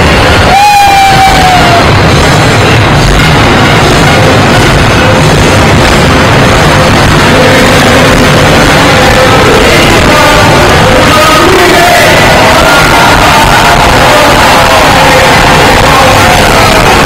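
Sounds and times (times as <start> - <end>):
loud distorted music: 0.0 - 17.0
truck engines running: 1.5 - 17.0.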